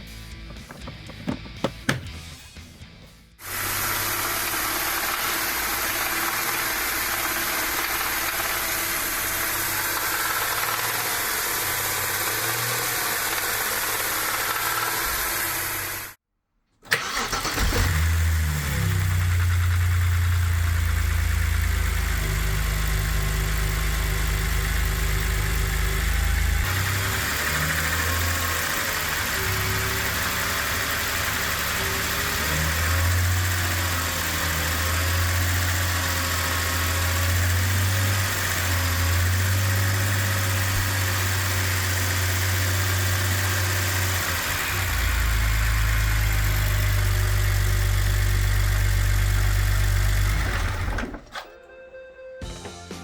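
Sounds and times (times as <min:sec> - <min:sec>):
car engine starting and idling: 0:00.0 - 0:02.5, 0:03.4 - 0:16.2, 0:16.8 - 0:51.5.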